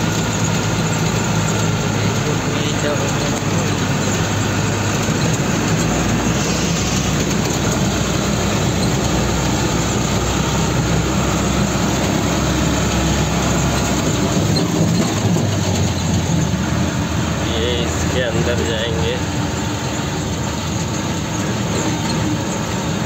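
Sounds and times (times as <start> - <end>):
road and cab noise: 0.0 - 23.0
truck engine: 0.0 - 23.0.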